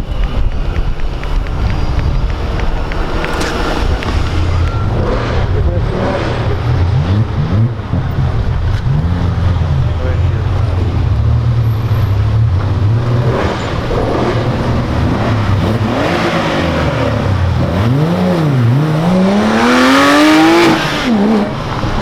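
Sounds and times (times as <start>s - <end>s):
sports car engine revving: 0.1s - 22.0s.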